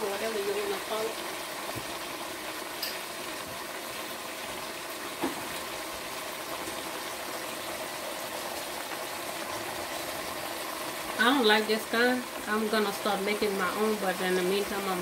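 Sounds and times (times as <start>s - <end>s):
pot simmering with a hiss: 0.0s - 15.0s.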